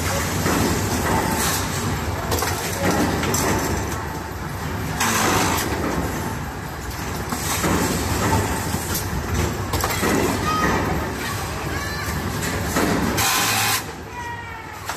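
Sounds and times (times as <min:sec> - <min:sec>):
machine mechanical clatter: 0:00.0 - 0:13.9.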